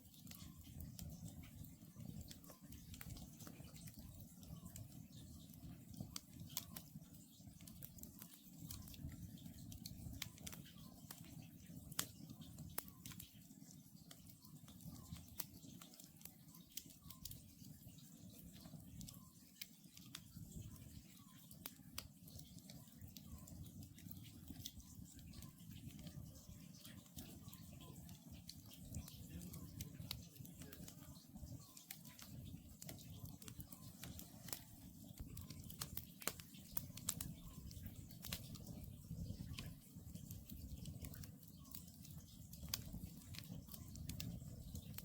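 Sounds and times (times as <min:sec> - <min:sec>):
campfire crackling and popping: 0:00.0 - 0:45.0
low rumble of burning logs: 0:00.0 - 0:45.0.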